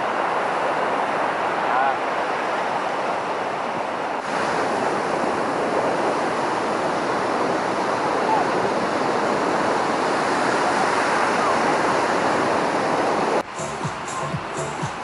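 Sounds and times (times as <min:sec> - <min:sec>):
surf waves breaking on beach: 0:00.0 - 0:15.0.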